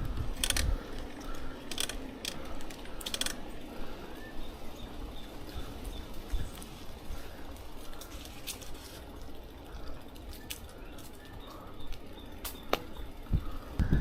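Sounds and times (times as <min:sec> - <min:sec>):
bicycle rolling noise: 0:00.0 - 0:14.0.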